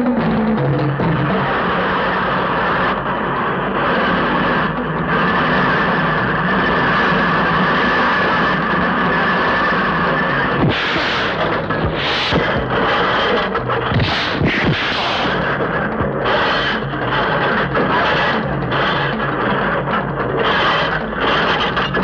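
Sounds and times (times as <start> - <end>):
heavy industrial machinery running: 0.0 - 22.0.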